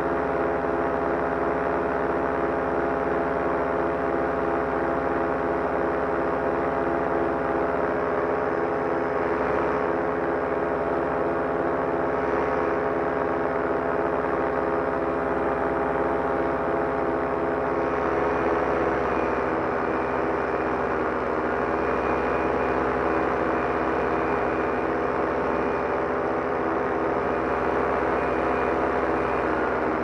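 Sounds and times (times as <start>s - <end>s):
paramotor engine running: 0.0s - 30.0s.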